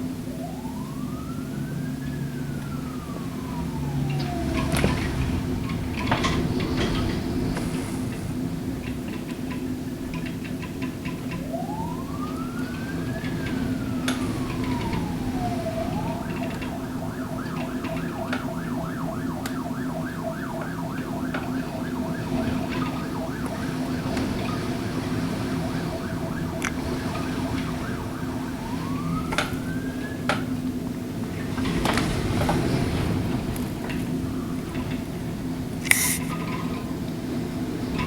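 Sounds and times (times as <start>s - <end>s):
emergency siren wailing and yelping: 0.0s - 38.0s.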